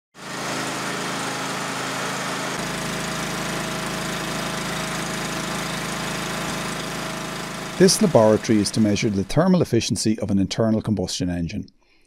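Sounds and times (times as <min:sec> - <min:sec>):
generator engine running: 0:00.2 - 0:10.0.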